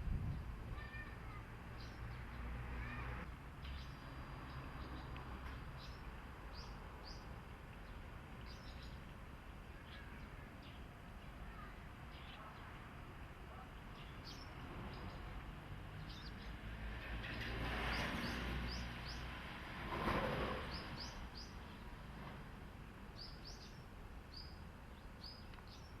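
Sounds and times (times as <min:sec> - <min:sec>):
small birds chirping: 0:00.2 - 0:19.4, 0:20.5 - 0:22.0, 0:23.0 - 0:26.0.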